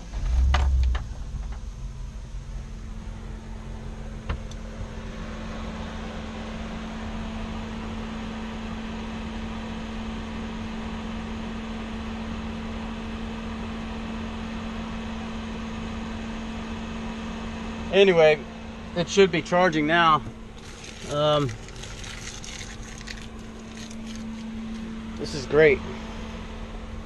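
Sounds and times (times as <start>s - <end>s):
vent fan humming: 0.0s - 10.5s, 15.7s - 27.0s.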